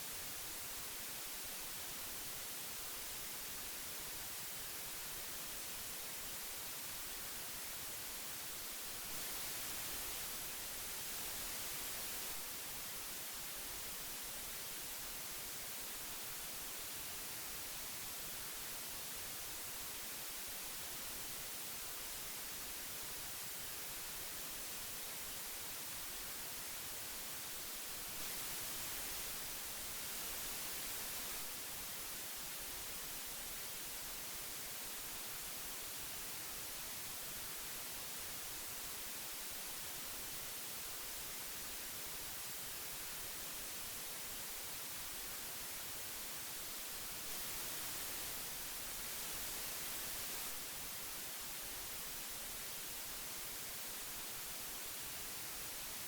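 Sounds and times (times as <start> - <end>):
tape hiss: 0.0 - 56.0.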